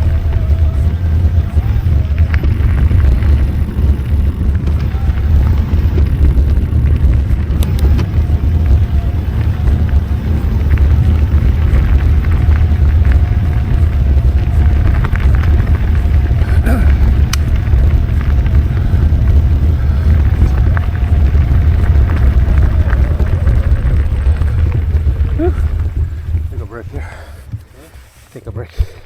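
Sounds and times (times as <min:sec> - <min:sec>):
wind buffeting microphone: 0:00.0 - 0:27.8
bike rattling over rough ground: 0:00.0 - 0:29.0.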